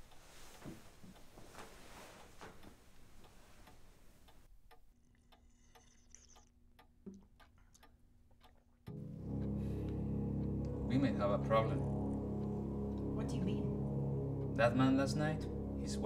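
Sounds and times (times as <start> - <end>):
clock ticking faintly: 0.0 - 16.0.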